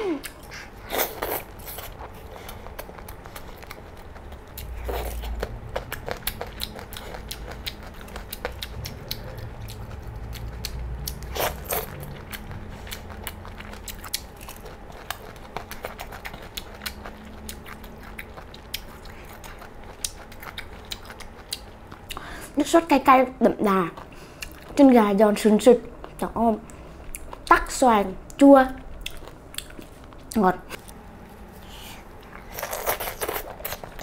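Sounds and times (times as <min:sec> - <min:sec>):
crunchy chewing and mouth clicks: 0:00.2 - 0:22.3, 0:28.3 - 0:34.0.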